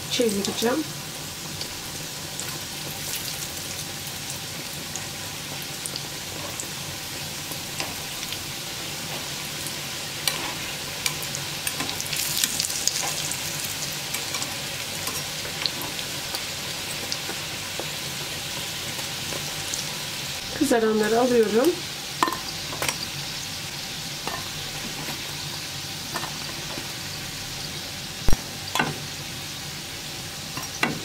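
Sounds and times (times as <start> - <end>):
dough sizzling in hot oil: 0.0 - 31.0.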